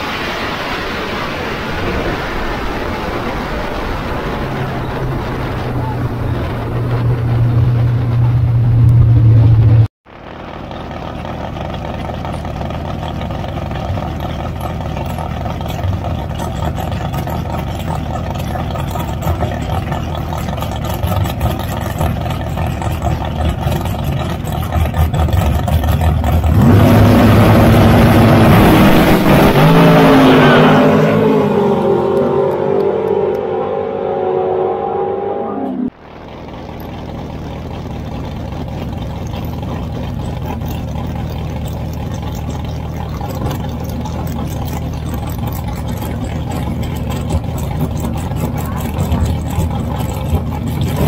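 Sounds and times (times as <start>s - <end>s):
dragster engine running in lanes: 0.0s - 51.0s
loud dragster engine onboard: 0.0s - 51.0s.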